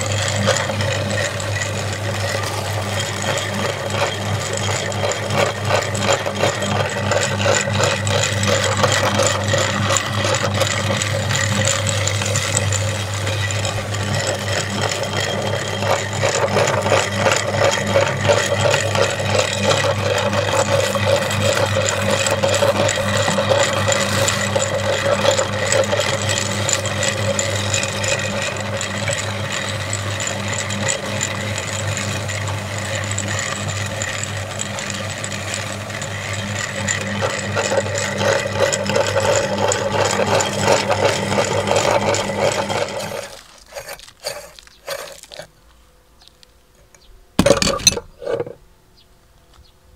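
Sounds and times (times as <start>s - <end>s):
meat grinder humming: 0.0s - 45.5s
cookies crunching in grinder: 0.0s - 46.6s.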